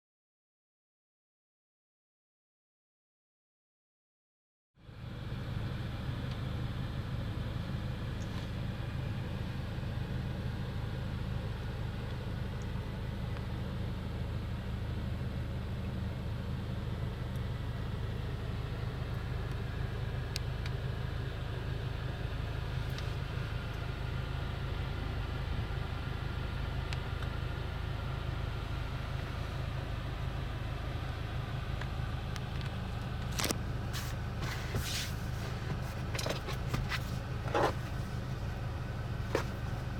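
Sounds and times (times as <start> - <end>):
car engine low drone: 4.8 - 39.9.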